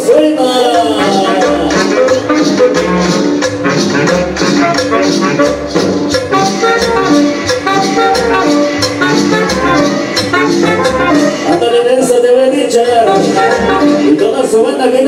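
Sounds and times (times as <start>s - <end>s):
loud cumbia dance music: 0.0s - 15.0s.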